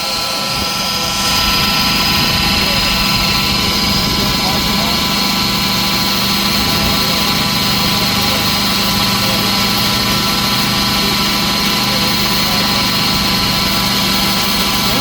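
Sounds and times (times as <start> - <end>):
belt grinder hum and whine: 0.0 - 15.0.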